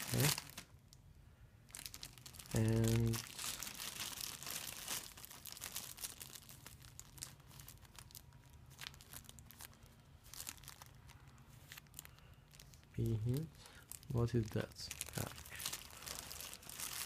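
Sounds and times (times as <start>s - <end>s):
plastic bags crinkling: 0.0s - 1.0s, 1.7s - 17.0s
sharp plastic crackles: 0.0s - 1.1s, 1.7s - 17.0s.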